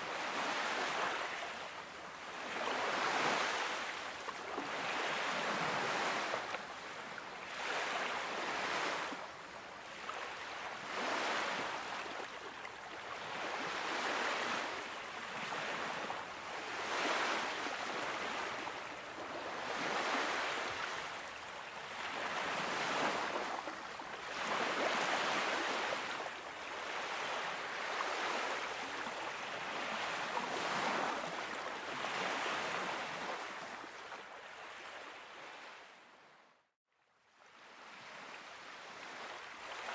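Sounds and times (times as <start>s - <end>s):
small waves washing onto beach: 0.0s - 36.3s, 37.4s - 39.9s.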